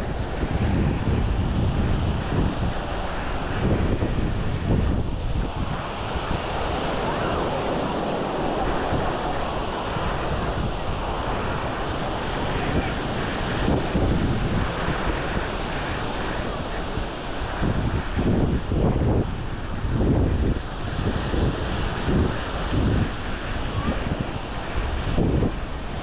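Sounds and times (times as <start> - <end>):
small waves washing onto sand: 0.0 - 26.0
wind buffeting microphone: 0.0 - 26.0.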